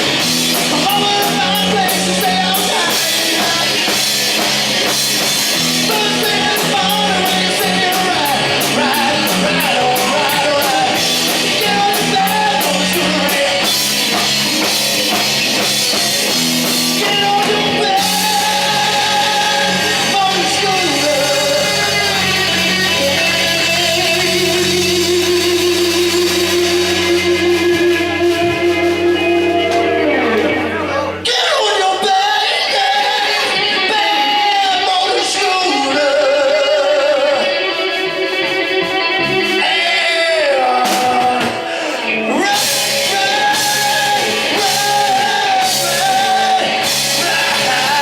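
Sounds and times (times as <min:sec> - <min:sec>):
person singing: 0:00.0 - 0:48.0
rock band playing live: 0:00.0 - 0:48.0.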